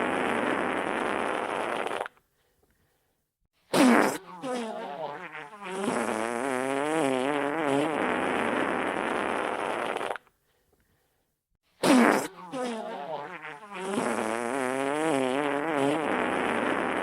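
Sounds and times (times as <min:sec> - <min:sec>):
wet fart sound effects: 0:00.0 - 0:02.2, 0:03.7 - 0:10.3, 0:11.8 - 0:17.0.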